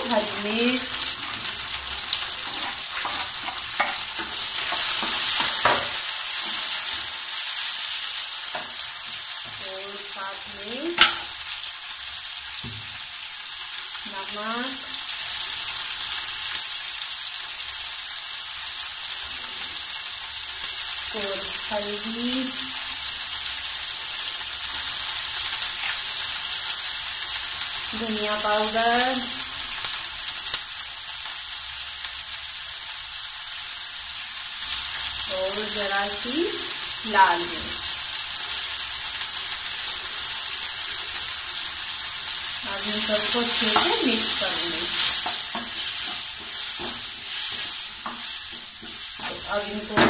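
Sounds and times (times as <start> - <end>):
vegetables sizzling in oil: 0.0 - 50.0.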